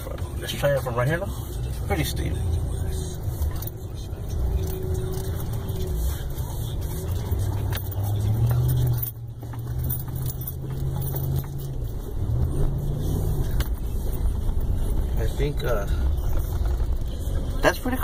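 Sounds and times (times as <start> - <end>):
cab rattling and jangling: 2.9 - 18.0.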